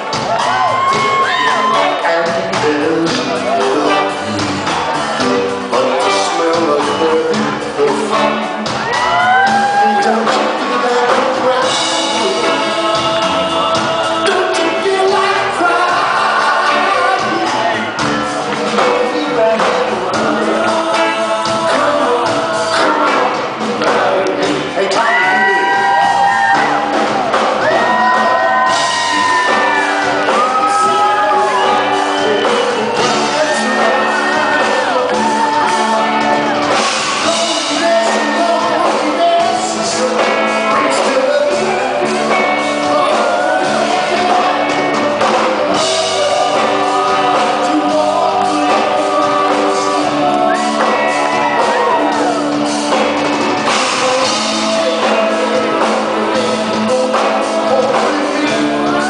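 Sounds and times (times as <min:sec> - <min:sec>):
amplified backing music: 0:00.0 - 0:59.0
man singing into microphone: 0:00.4 - 0:26.9, 0:27.6 - 0:53.0, 0:53.6 - 0:59.0.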